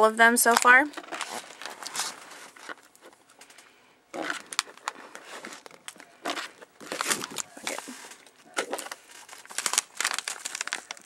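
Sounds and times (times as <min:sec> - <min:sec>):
plastic snack bag crinkling: 0:00.4 - 0:11.0.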